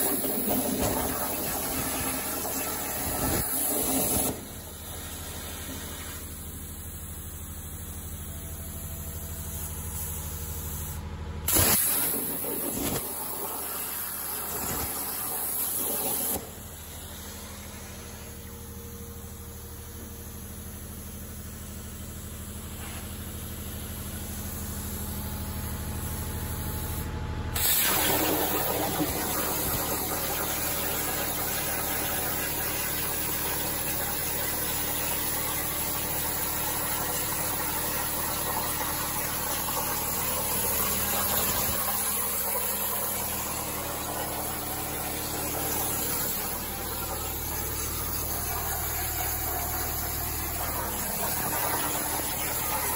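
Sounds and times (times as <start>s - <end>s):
plasma arc cutting hiss: 0.0s - 8.2s, 9.5s - 18.4s, 26.0s - 39.5s, 40.3s - 52.9s
machine hum with air hiss: 0.0s - 52.9s.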